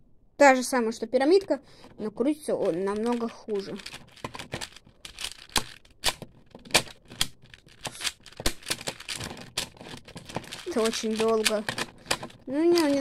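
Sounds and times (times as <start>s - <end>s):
puzzle cube plastic clicks: 1.2s - 13.0s.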